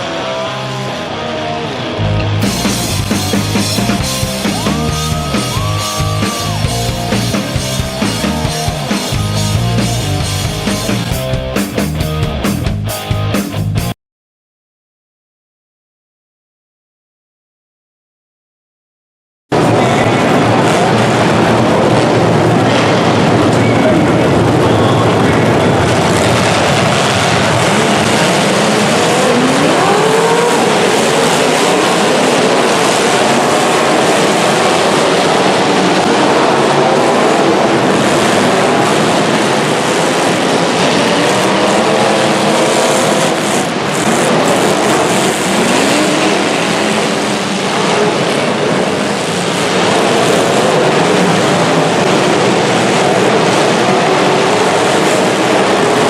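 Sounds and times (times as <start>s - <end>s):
engine and tyre noise: 0.0s - 12.9s, 19.5s - 56.0s
car engines revving hard: 0.0s - 13.3s, 19.5s - 56.0s.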